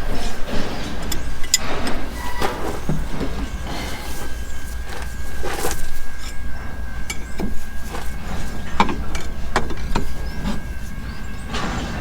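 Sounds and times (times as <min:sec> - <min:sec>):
hand tools clinking on metal: 0:00.0 - 0:11.6
steady low hum: 0:00.0 - 0:12.0.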